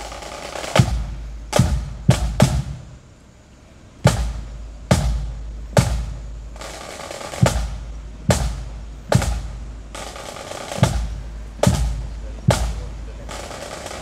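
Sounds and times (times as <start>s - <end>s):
snare drum roll: 0.0s - 3.0s, 4.0s - 14.0s
marching drums beating: 0.0s - 14.0s.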